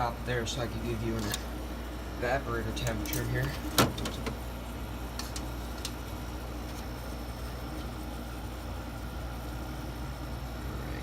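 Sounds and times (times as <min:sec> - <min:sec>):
blower fan rushing: 0:00.0 - 0:11.0
compressor humming: 0:00.0 - 0:11.0.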